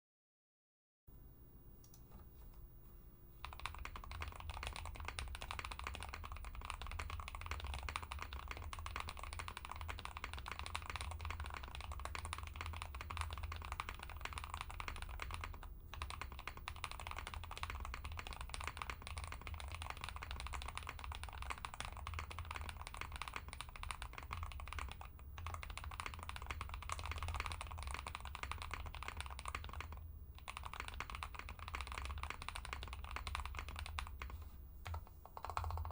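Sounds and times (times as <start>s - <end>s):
mechanical keyboard typing: 3.4s - 35.9s.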